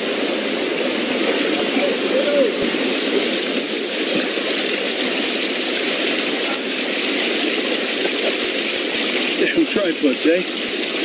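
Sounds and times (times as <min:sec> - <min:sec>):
fast-flowing river: 0:00.0 - 0:11.0
heavy rain: 0:00.0 - 0:11.0.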